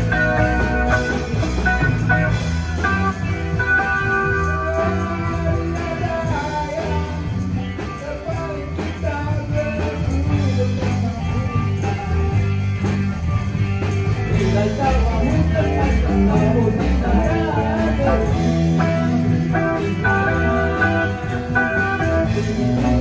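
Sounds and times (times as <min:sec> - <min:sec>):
electric guitars: 0:00.0 - 0:23.0
steady drum beat: 0:00.0 - 0:23.0.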